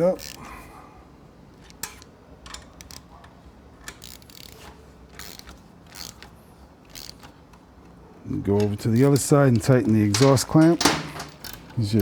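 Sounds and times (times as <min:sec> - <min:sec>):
socket ratchet clicking: 0:00.0 - 0:00.5, 0:01.6 - 0:03.1, 0:03.8 - 0:08.0, 0:08.6 - 0:12.0.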